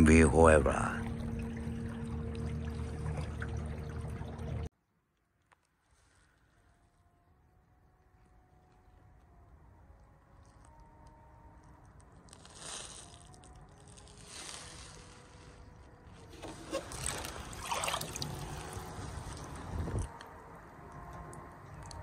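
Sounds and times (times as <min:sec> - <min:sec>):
water around a boat: 0:00.0 - 0:04.7, 0:08.0 - 0:22.0
wind: 0:00.0 - 0:22.0.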